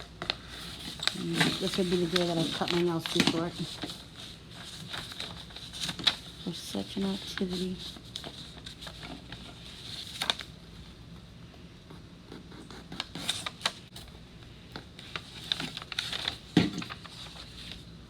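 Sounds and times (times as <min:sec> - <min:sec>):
paper rustling and scratching: 0:00.0 - 0:10.6, 0:12.4 - 0:14.1, 0:14.8 - 0:17.9.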